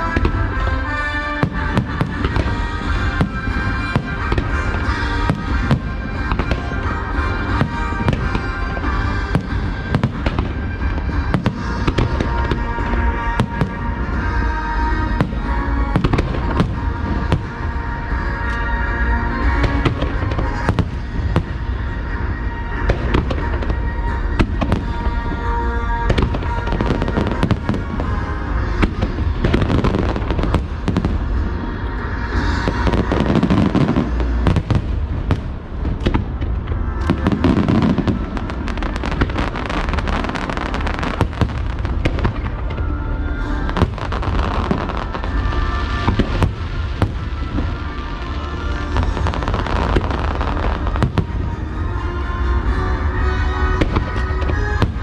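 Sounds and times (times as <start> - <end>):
fireworks bursting and crackling: 0.0 - 55.0
music playing: 0.0 - 55.0.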